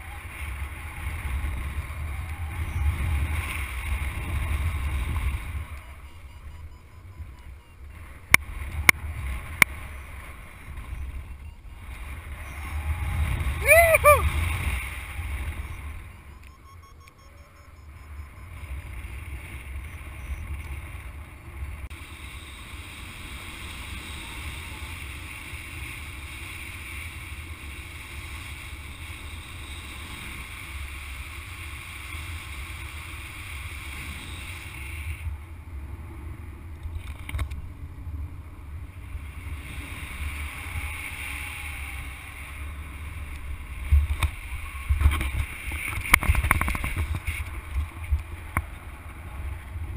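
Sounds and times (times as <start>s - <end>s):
wind buffeting microphone: 0.0s - 16.4s, 17.9s - 49.9s.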